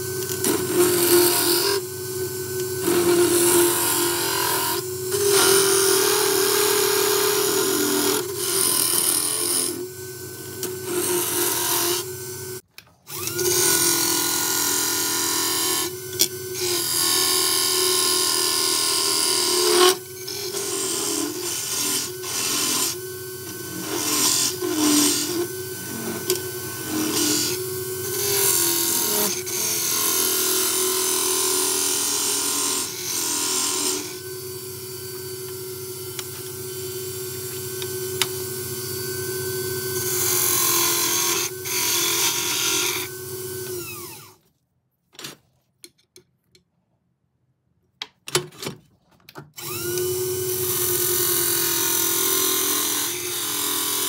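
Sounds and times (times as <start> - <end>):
lathe motor hum: 0.0 - 44.3.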